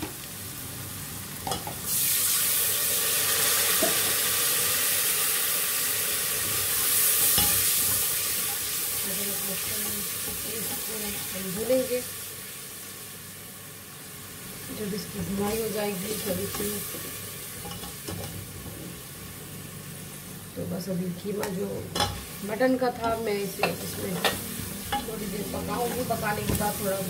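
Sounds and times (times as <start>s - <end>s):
oil sizzling in a pot: 0.0s - 27.0s.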